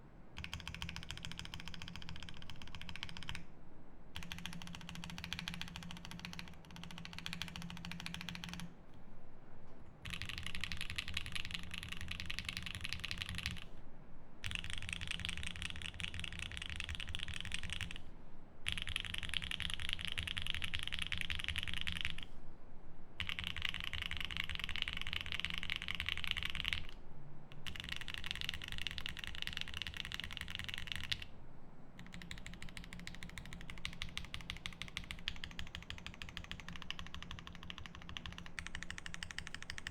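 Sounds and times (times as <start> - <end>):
mechanical keyboard typing: 0.4 - 3.4, 4.2 - 8.7, 10.1 - 13.7, 14.4 - 18.0, 18.6 - 22.3, 23.2 - 31.3, 32.0 - 39.9.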